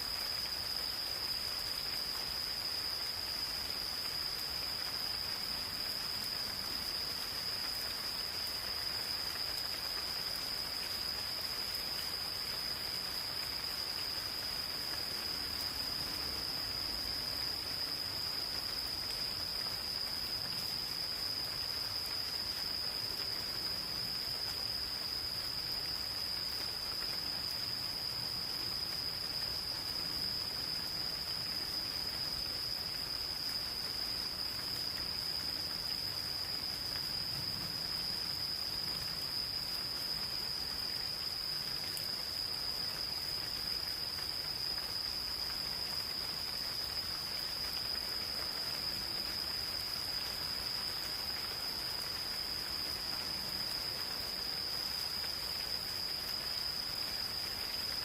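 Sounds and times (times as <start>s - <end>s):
gentle rain falling: 0.0s - 58.0s
insects trilling: 0.0s - 58.0s.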